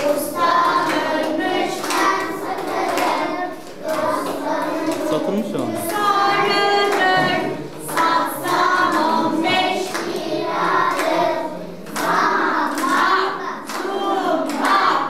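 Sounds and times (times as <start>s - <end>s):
children singing in chorus: 0.0s - 15.0s
hands clapping: 0.0s - 15.0s.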